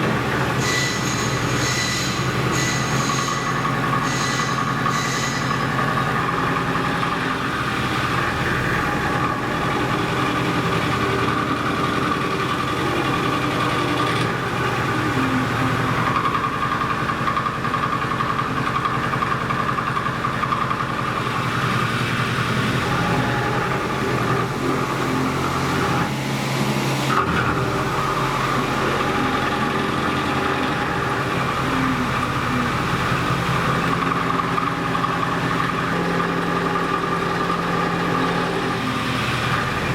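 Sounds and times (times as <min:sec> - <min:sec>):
milling machine droning and whining: 0:00.0 - 0:39.9.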